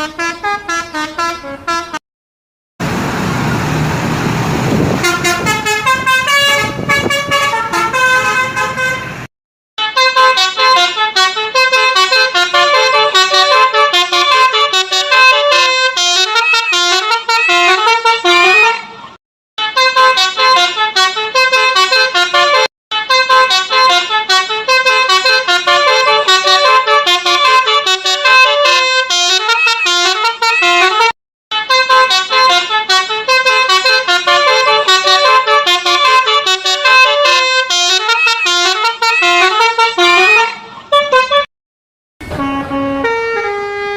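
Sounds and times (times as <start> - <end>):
melodic bus horn: 0.0 - 2.0, 4.7 - 41.5, 42.2 - 43.9.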